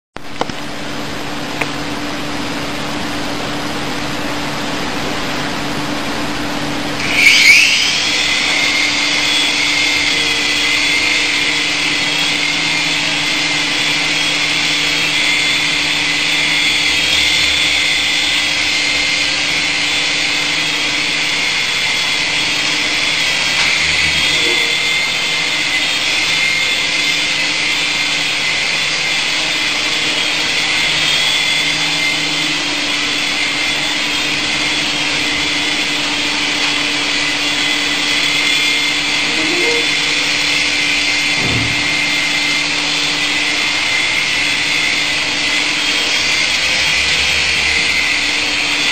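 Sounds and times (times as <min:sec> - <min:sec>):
rotor whirr: 0:03.2 - 0:48.9
toy helicopter motor whine: 0:06.8 - 0:48.9.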